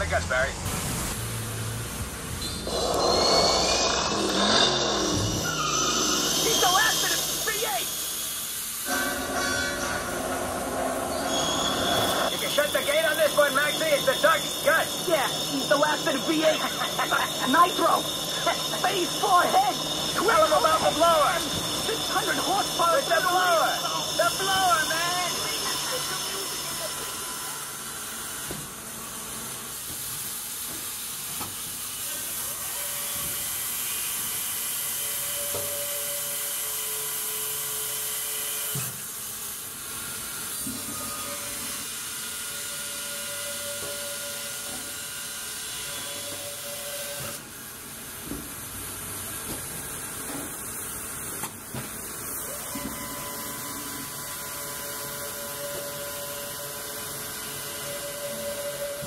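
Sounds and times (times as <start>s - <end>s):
band saw machinery hissing din: 0.0s - 59.0s.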